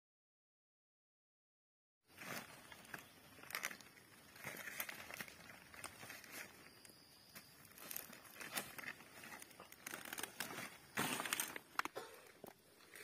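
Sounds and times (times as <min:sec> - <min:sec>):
dry palm fronds crackling underfoot: 0:02.1 - 0:13.0.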